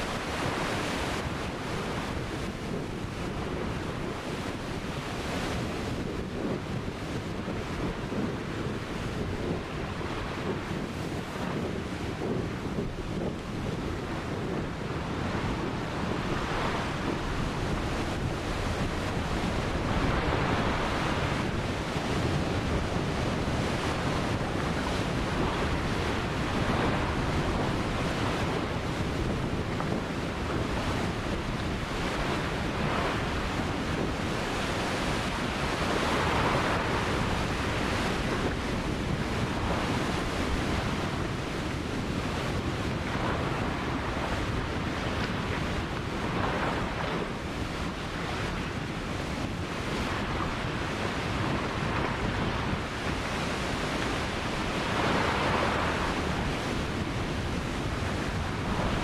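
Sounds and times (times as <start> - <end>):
ocean waves breaking on beach: 0.0 - 59.0
wind rumbling on microphone: 0.0 - 59.0.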